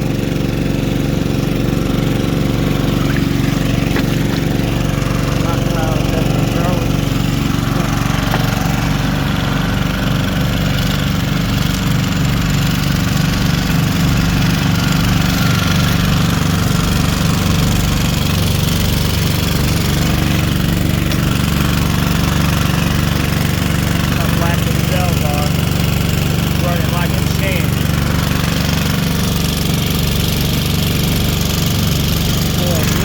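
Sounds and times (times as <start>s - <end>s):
small gasoline engine running: 0.0s - 33.0s.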